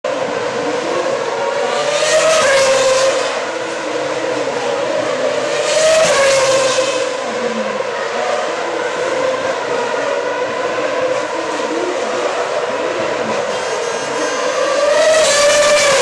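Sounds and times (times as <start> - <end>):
racing car engines droning: 0.0 - 16.0
racing car passing by: 0.1 - 16.0.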